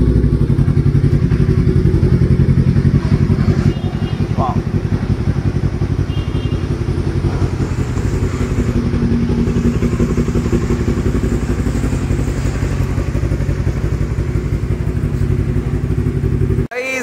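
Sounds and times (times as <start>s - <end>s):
motorcycle engine idling: 0.0s - 16.7s.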